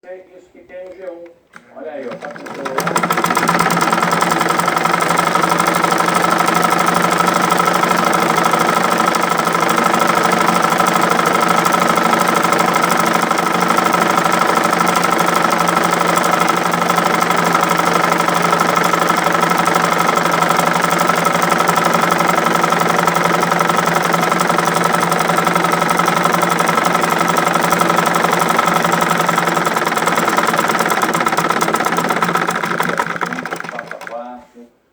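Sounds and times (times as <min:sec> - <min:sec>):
treadle sewing machine stitching: 0:02.0 - 0:34.4.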